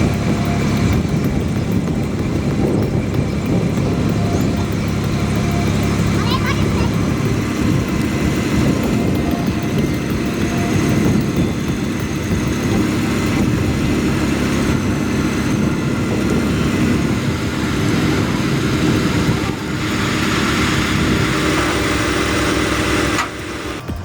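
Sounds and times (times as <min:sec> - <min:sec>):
heavy vehicle engine running: 0:00.0 - 0:24.0.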